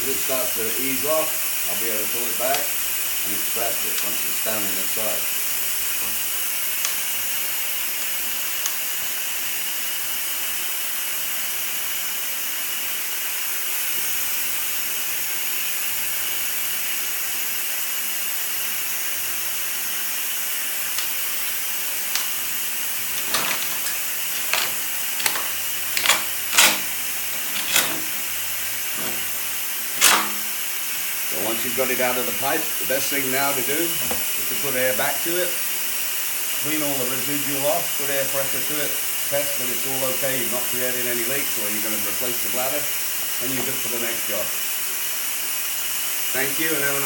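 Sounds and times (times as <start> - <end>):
vacuum line air hiss: 0.0 - 47.0.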